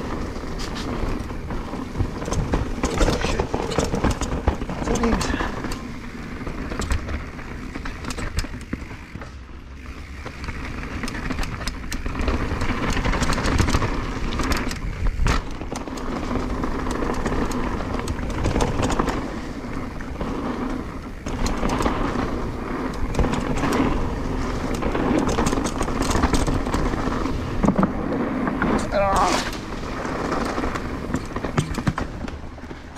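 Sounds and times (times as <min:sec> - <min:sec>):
bike clicking and rattling: 0:00.0 - 0:32.9
bike tyres rolling over dirt: 0:00.0 - 0:32.9.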